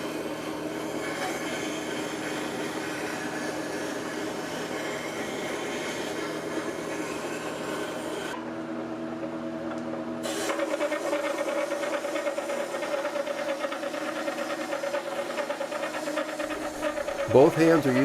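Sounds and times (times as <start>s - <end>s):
knife rasping on whetstone: 0.0s - 8.4s, 10.3s - 18.0s
wet grinder motor hum: 0.0s - 8.5s, 10.2s - 18.0s.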